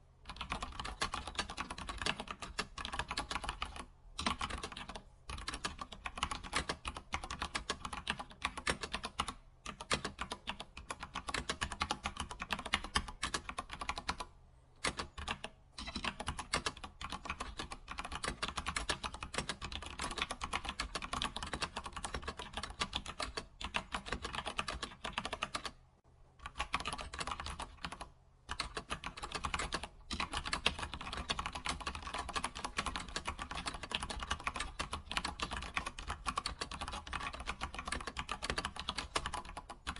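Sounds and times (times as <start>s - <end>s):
computer keyboard typing: 0.3s - 25.8s, 26.4s - 39.9s.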